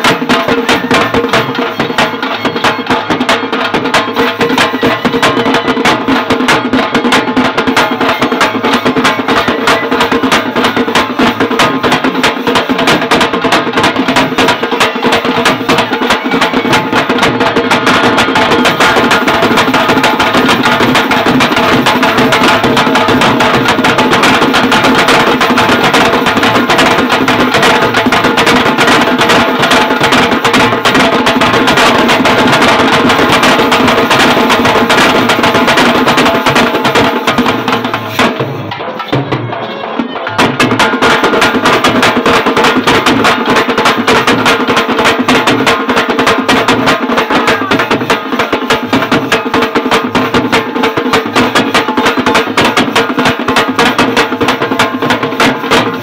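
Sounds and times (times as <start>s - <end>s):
folk drum ensemble fast rhythm: 0.0s - 56.0s.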